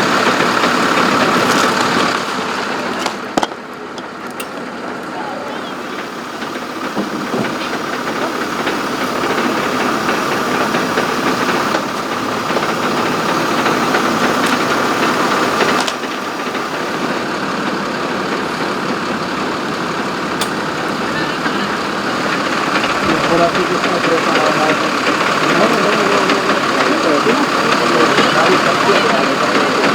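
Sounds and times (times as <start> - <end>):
constant whine: 0.0 - 29.9
engine running: 0.0 - 29.9.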